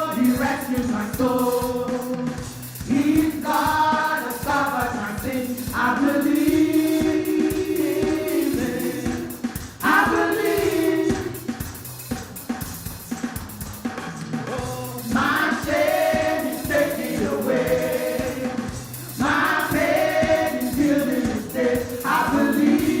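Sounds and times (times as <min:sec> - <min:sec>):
gospel choir singing: 0:00.0 - 0:11.7, 0:14.6 - 0:23.0
band playing a steady beat: 0:00.0 - 0:23.0.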